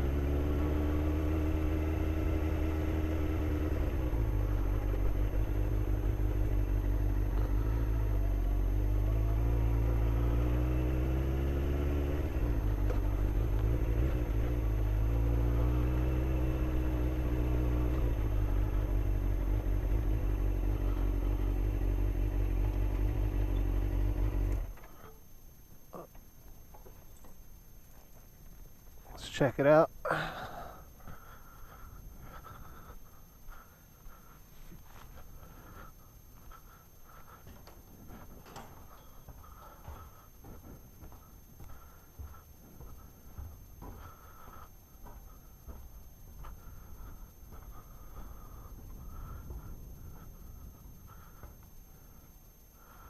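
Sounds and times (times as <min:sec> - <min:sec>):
motorcycle engine running: 0:00.0 - 0:26.8, 0:31.1 - 0:53.0.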